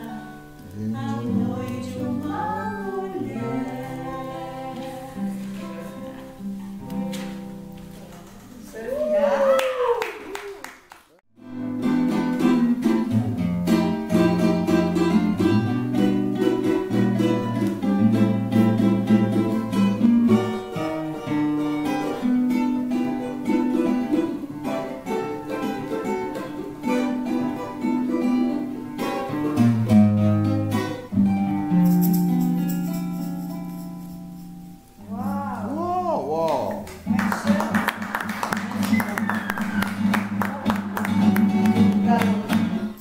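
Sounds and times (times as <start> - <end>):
cavaquinho plucked melody: 0.0 - 8.6, 11.4 - 43.0
acoustic guitar bass lines: 0.0 - 8.9, 11.4 - 43.0.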